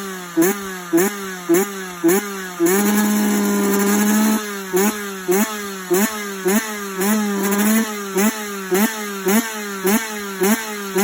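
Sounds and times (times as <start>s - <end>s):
engine idling with sharp revs: 0.0s - 11.0s.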